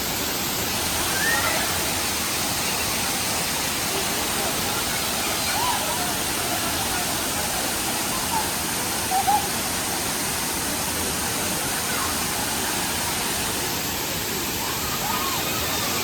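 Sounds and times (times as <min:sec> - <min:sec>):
waterfall rushing water: 0:00.0 - 0:16.0.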